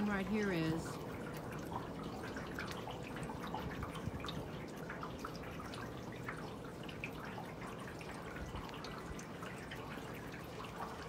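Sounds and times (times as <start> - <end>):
rainwater dripping from gutter: 0.0 - 11.0.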